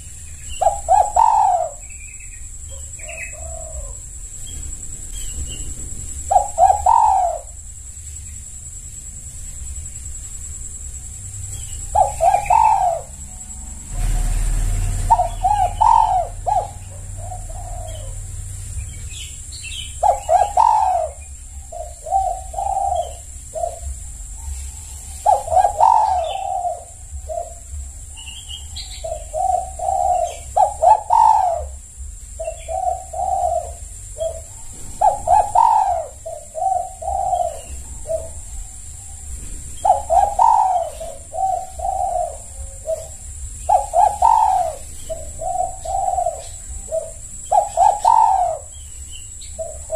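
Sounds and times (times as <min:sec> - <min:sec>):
dove cooing: 0:00.0 - 0:07.8, 0:11.0 - 0:49.9.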